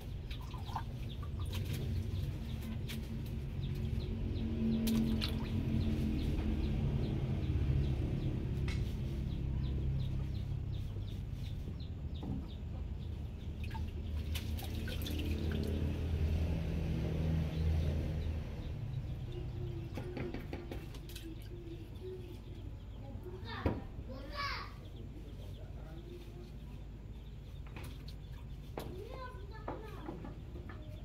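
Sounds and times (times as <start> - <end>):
small birds chirping: 0.0 - 16.4, 17.1 - 31.0.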